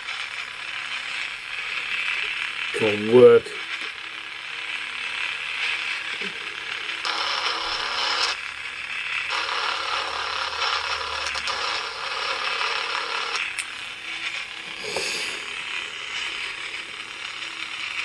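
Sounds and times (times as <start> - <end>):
distorted speaker noise: 0.0 - 18.0.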